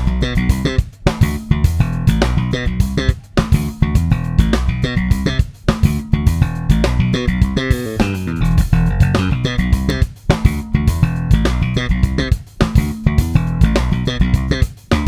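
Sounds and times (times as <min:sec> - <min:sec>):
electric bass riff: 0:00.0 - 0:15.0.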